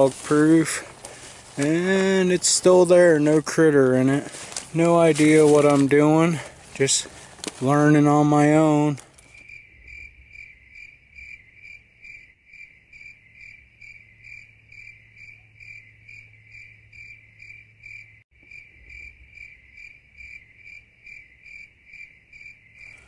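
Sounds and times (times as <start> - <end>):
cricket chirping: 4.1 - 23.0.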